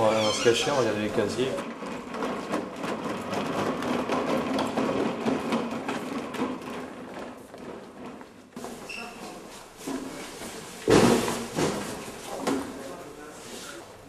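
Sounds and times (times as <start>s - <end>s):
cleaning trolley rattling on tiles: 0.0s - 14.0s.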